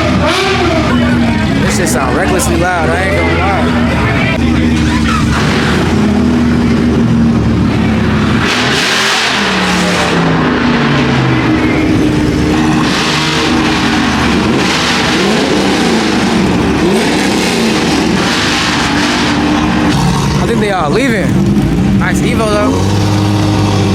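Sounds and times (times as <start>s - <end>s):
car engine revving: 0.0s - 23.9s
loud exhaust rushes: 0.0s - 23.9s.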